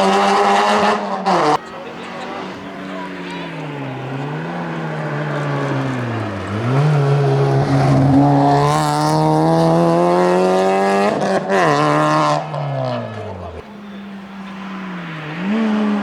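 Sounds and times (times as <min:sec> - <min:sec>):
car engine under hard throttle: 0:00.0 - 0:16.0.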